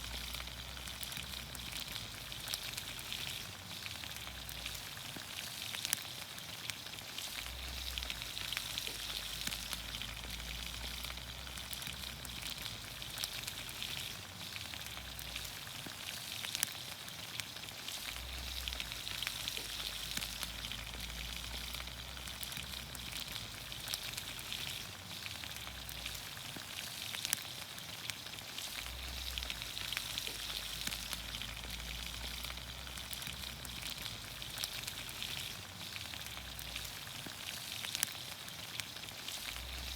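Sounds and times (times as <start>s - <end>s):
campfire pops and crackles: 0.0s - 39.9s
vegetables sizzling in oil: 0.0s - 39.9s.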